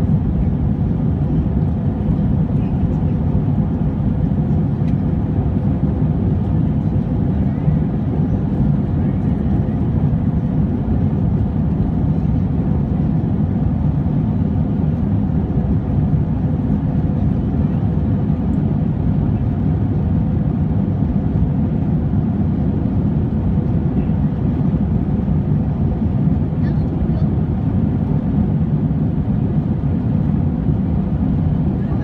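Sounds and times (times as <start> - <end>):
jet engines in airplane cabin: 0.0 - 32.0.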